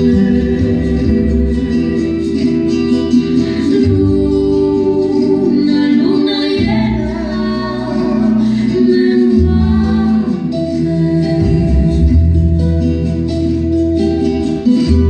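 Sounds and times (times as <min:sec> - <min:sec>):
woman singing long notes: 0:00.0 - 0:02.7, 0:03.3 - 0:12.8
deep bass: 0:00.0 - 0:15.0.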